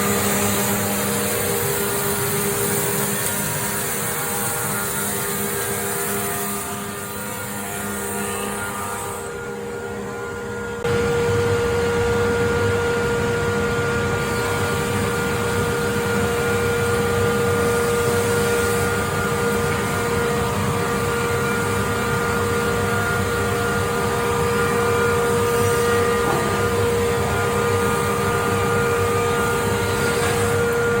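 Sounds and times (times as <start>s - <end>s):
machine running with steady whine: 0.0s - 31.0s.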